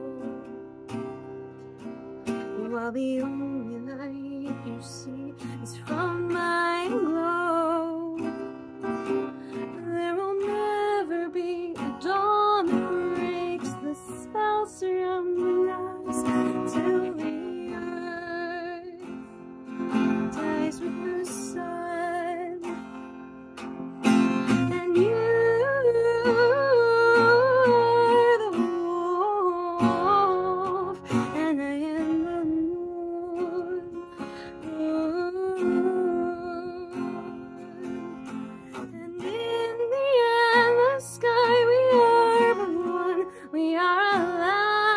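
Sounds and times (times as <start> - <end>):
woman singing: 0.0 - 23.0, 24.0 - 44.9
acoustic guitar: 0.0 - 44.9.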